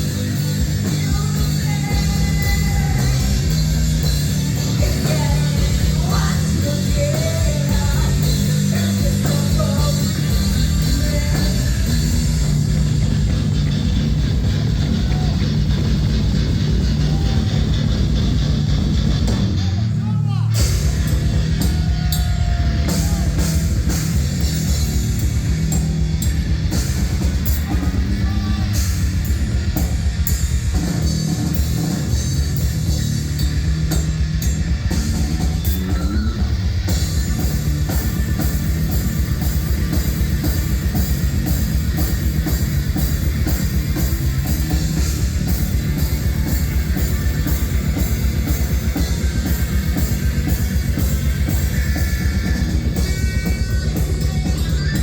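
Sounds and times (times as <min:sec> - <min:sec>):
loud rock music: 0:00.0 - 0:55.0.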